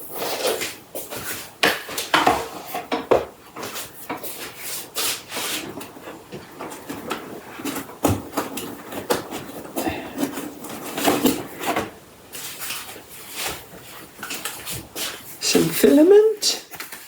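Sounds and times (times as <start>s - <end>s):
packaging rustling and knocking: 0.5s - 15.4s.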